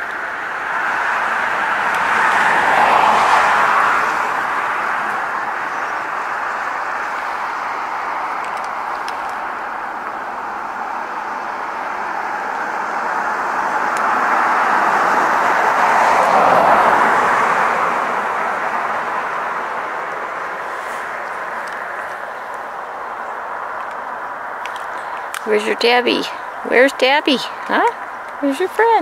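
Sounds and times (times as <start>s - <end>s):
car passing: 0.0s - 29.0s
road traffic noise: 0.0s - 29.0s.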